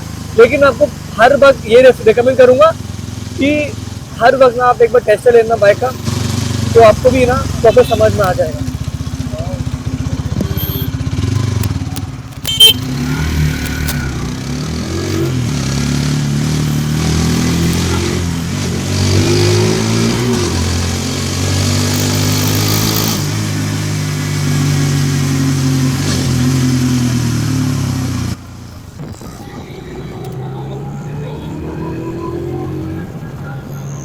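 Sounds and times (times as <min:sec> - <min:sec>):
motorcycle engine accelerating: 0:00.0 - 0:33.4.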